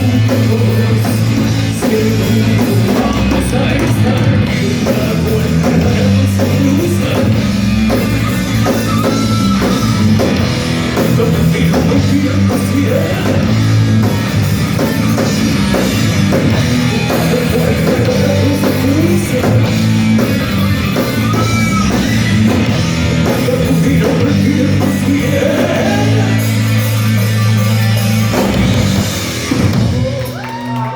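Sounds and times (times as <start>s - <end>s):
metal band playing live: 0.0s - 30.9s.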